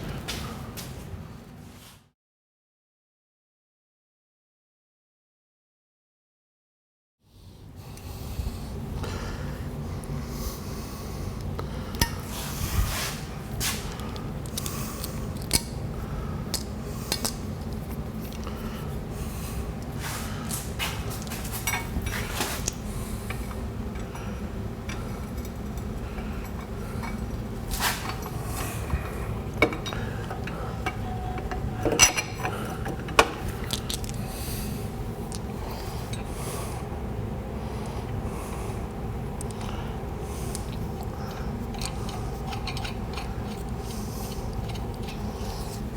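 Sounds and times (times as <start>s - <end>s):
steady low rumble: 7.6s - 45.9s.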